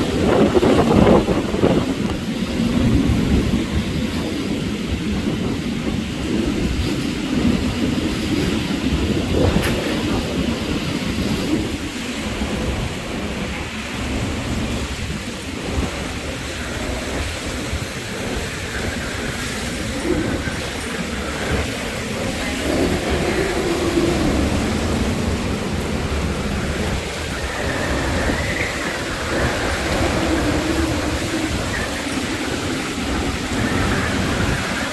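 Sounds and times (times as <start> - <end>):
driven rain: 0.0 - 34.9
strong wind blowing: 0.0 - 34.9
wind buffeting microphone: 0.0 - 34.9.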